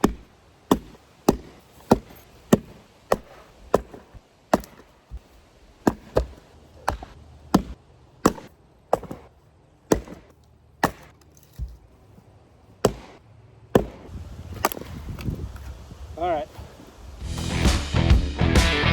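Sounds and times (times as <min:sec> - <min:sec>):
axe chopping logs: 0:00.0 - 0:15.7.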